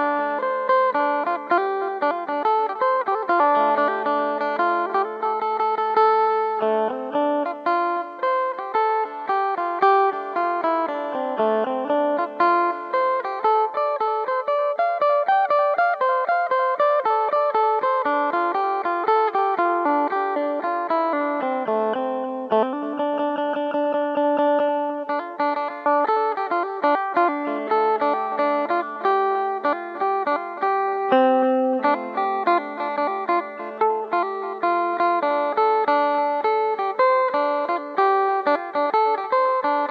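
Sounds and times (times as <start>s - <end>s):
plucked lute melody: 0.0s - 39.9s.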